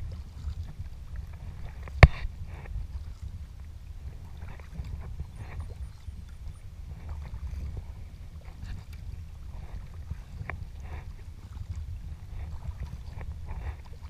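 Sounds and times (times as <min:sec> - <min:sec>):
paddle splashing water: 0:00.0 - 0:14.0.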